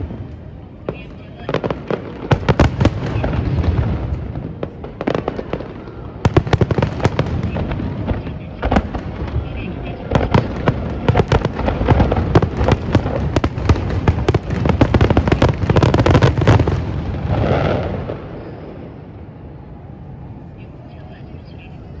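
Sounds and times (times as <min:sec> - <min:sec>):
fireworks bangs and crackles: 0:00.0 - 0:19.4
rumbling firework burst: 0:01.4 - 0:19.2.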